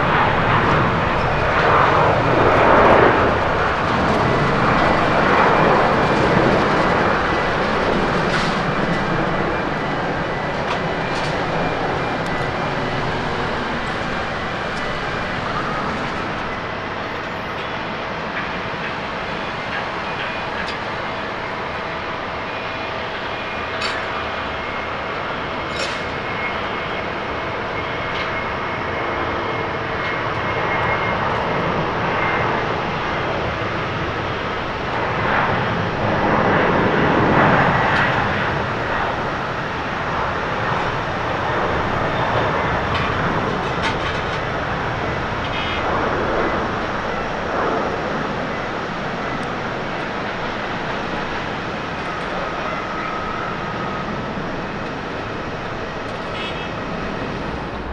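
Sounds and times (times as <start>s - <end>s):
jet engines at takeoff: 0.0s - 57.9s.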